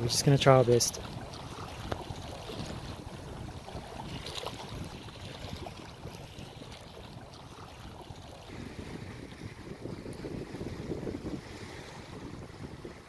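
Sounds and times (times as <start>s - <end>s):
low wind rumble: 0.0s - 13.0s
small waves lapping: 0.0s - 13.0s.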